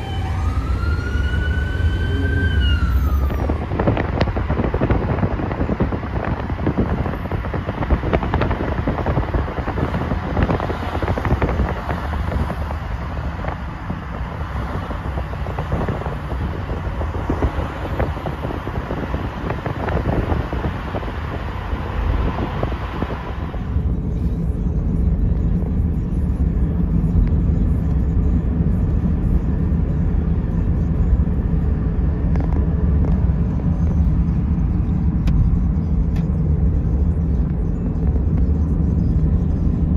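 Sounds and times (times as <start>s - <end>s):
car cabin highway rumble: 0.0s - 39.9s
hissing city street traffic: 0.0s - 39.9s.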